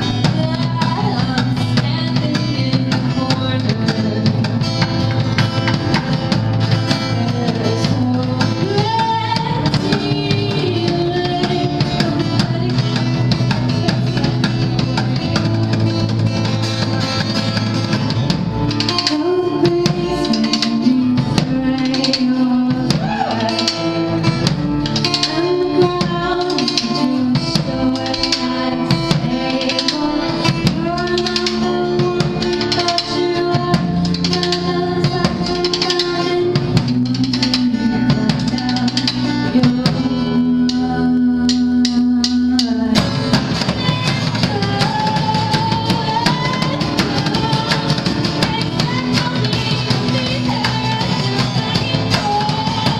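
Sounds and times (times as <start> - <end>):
drum kit steady beat: 0.0 - 52.9
live band playing acoustic song: 0.0 - 52.9.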